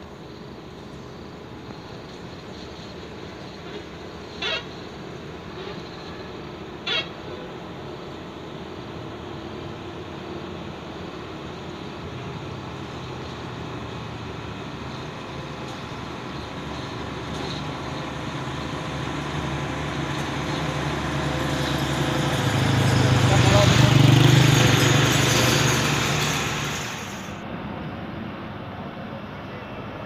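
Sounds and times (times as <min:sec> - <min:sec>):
dump truck engine humming: 0:02.1 - 0:27.8.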